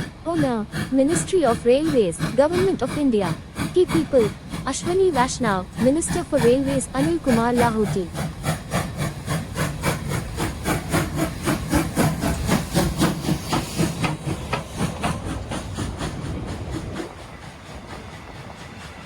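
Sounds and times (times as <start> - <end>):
train running rhythmically: 0.0 - 19.0.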